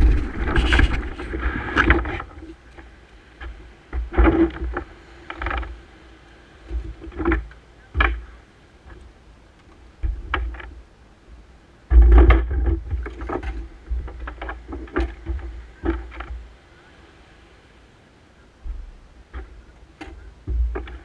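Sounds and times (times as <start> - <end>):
kayak knocking and clattering: 0.0 - 6.0, 6.6 - 10.8, 11.9 - 16.6, 18.6 - 21.0.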